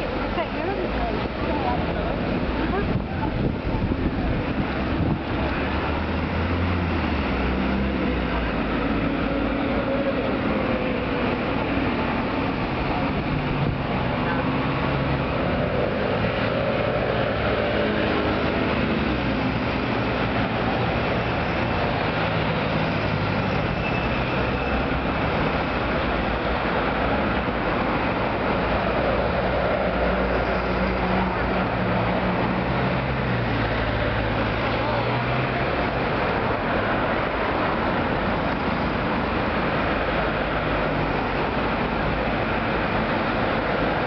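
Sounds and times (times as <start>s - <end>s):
cars driving past: 0.0s - 44.0s
vehicle engines and tyre noise: 0.0s - 44.0s.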